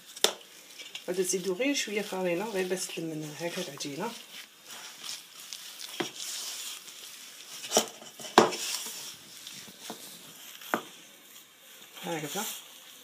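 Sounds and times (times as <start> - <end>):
hands kneading dough: 0.0 - 12.6.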